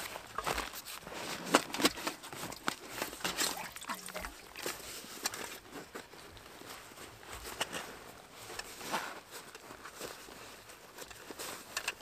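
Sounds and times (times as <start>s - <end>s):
fabric rustling: 0.0s - 12.0s
hands rummaging in bag: 0.0s - 12.0s.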